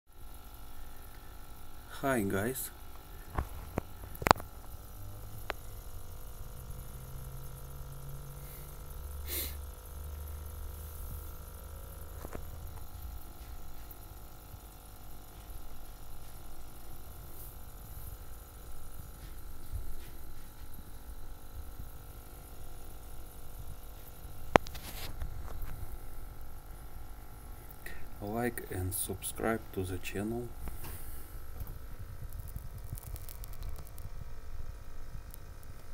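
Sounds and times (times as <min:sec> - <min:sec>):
low mechanical hum: 0:00.1 - 0:35.9.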